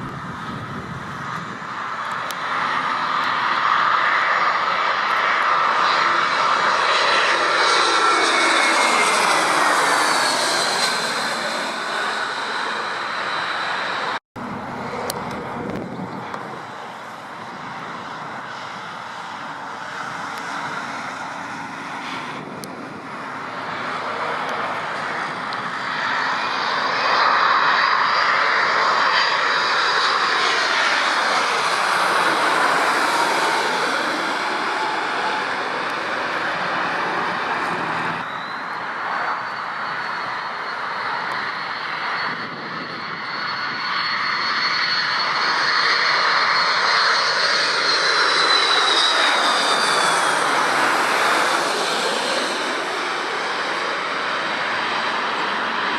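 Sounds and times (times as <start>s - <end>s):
airliner jet engines passing: 0.0s - 55.9s.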